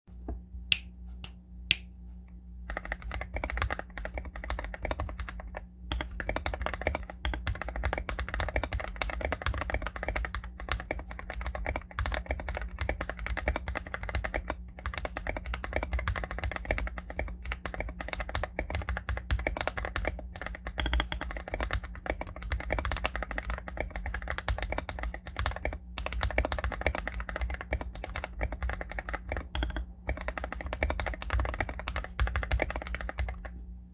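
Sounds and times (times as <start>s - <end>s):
typing on mechanical keyboard: 2.7s - 33.6s.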